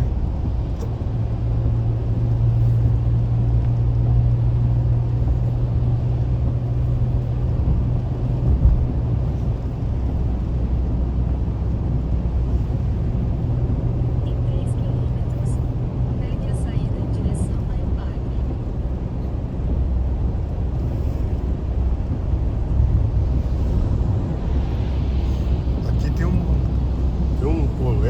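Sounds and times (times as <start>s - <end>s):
car engine and tyre drone: 0.0s - 28.0s.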